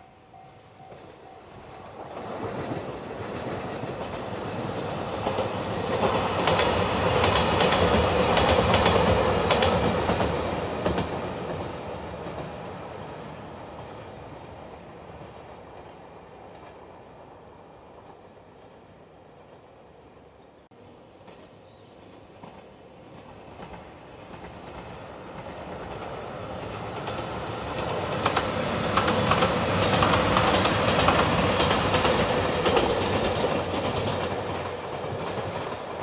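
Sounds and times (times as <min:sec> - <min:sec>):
diesel train passing: 0:00.0 - 0:36.0.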